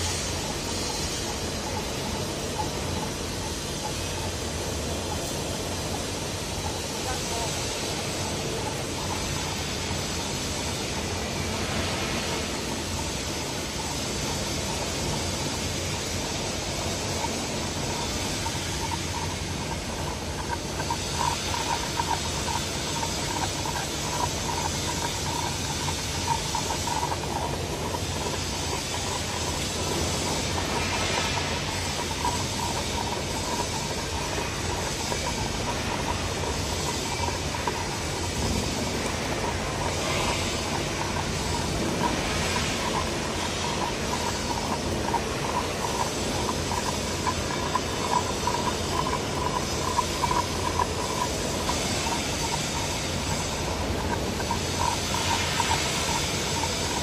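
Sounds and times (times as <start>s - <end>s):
welding hiss and crackle: 0.0s - 57.0s.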